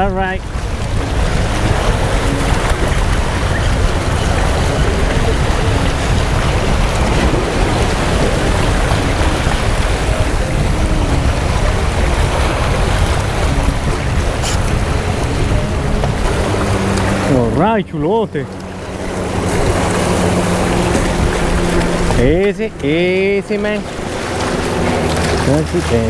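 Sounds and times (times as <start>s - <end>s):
surf washing against rocks: 0.0s - 26.0s
wind buffeting microphone: 0.0s - 26.0s.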